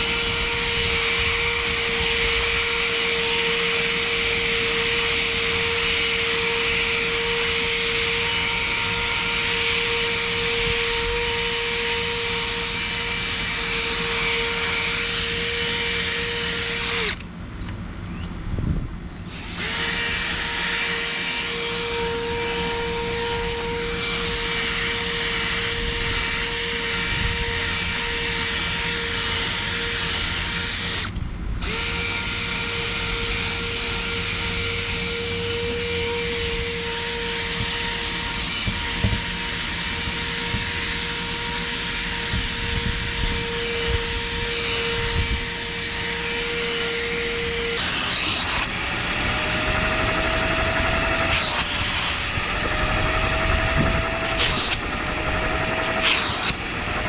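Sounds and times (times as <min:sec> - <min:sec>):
small electric motor whining: 0:00.0 - 0:18.4, 0:19.2 - 0:57.0.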